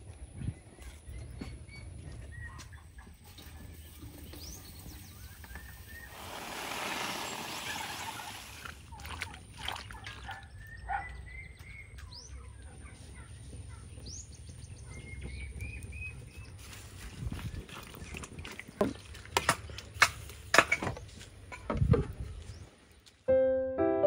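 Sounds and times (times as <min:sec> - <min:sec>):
birds calling: 0:00.5 - 0:19.9.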